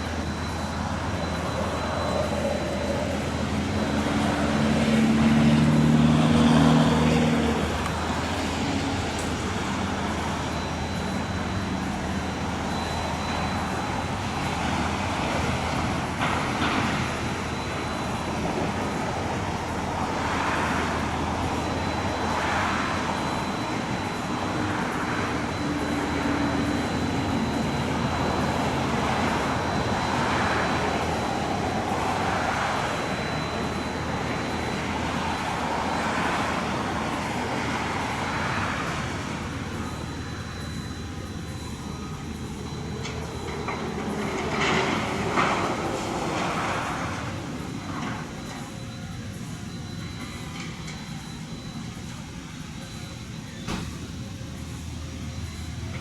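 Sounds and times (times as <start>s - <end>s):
low engine hum: 0.0s - 56.0s
road traffic: 0.0s - 56.0s.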